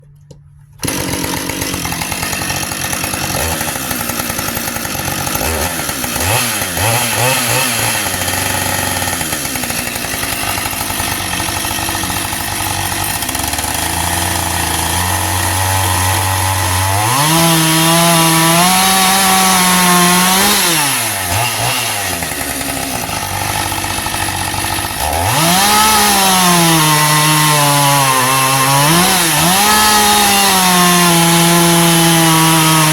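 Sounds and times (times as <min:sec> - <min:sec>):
chainsaw revving and cutting wood: 0:00.8 - 0:32.9.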